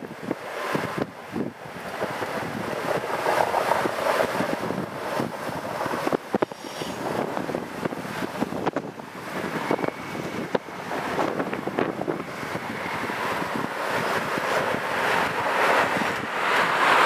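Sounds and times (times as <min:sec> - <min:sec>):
steady rushing noise: 0:00.0 - 0:17.0
train wheels clicking on rails: 0:00.0 - 0:17.0
wind buffeting microphone: 0:00.0 - 0:17.0.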